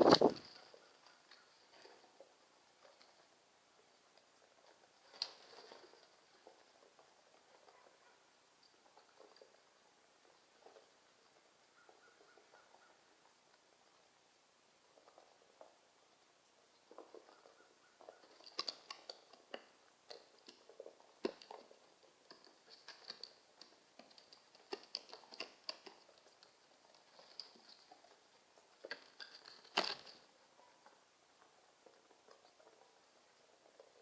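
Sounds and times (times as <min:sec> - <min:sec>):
birds pecking on hard surface: 0:00.0 - 0:34.0.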